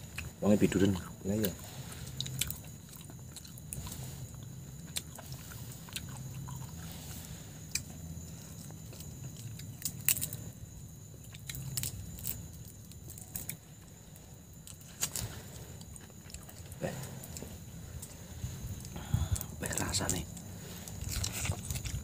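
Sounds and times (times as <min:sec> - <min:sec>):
chewing: 0:00.0 - 0:22.0.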